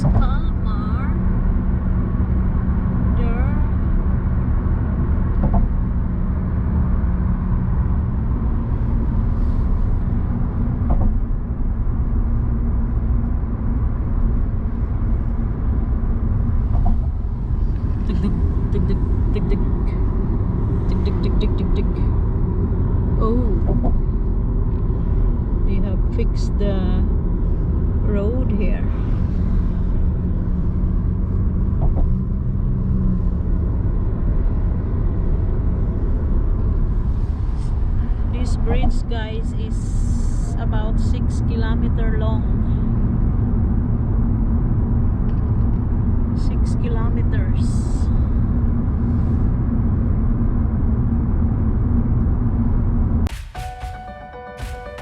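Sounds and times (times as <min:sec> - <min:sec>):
car interior road and engine rumble: 0:00.0 - 0:55.0.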